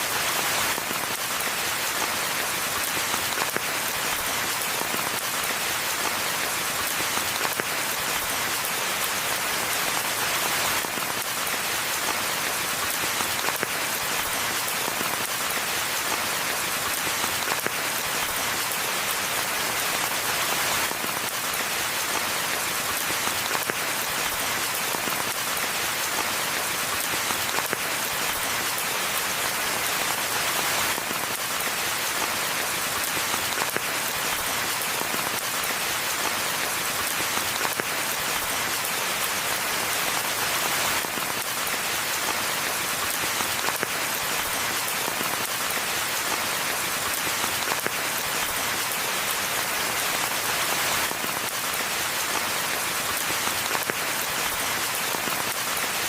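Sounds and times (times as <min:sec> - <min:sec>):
rain falling on forest floor: 0:00.0 - 0:56.0.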